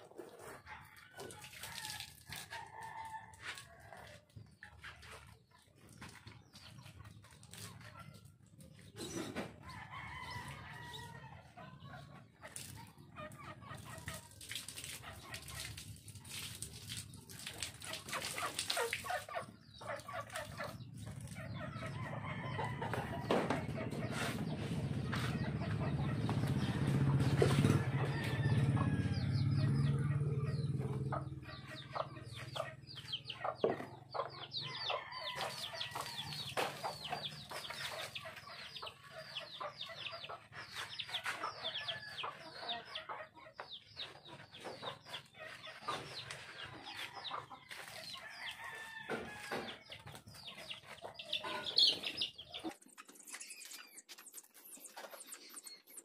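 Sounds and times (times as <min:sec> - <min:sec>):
chickens clucking: 0:00.0 - 0:01.4, 0:02.4 - 0:16.4, 0:17.0 - 0:56.0.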